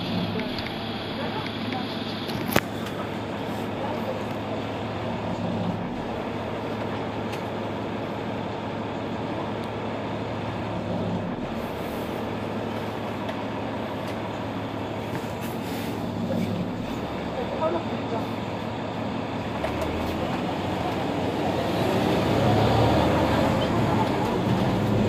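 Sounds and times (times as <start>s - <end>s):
bus engine idling: 0.0s - 25.0s.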